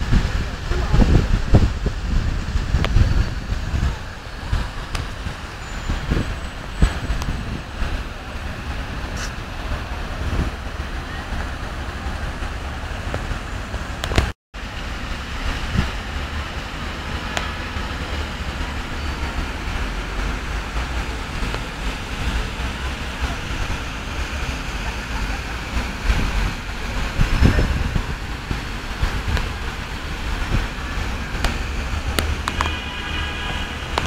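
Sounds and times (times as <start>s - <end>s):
distant road traffic: 0.0s - 34.0s
fountain water falling: 0.0s - 34.0s
wind rumbling on microphone: 0.0s - 34.0s.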